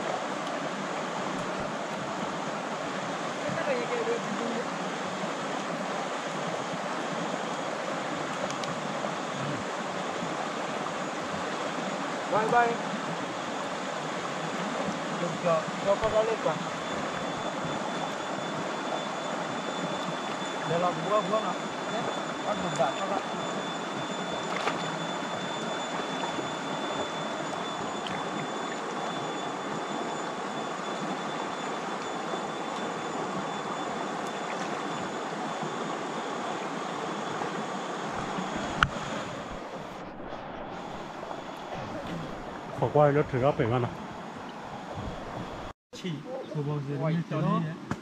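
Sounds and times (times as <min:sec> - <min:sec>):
river water rushing over rocks: 0:00.0 - 0:42.8
thin high whine: 0:00.0 - 0:48.0.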